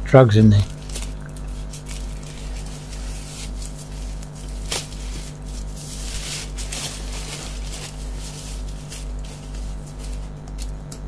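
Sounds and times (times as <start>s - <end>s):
steady low hum: 0.0s - 11.0s
cardboard parcel rustling and scraping: 0.7s - 10.8s.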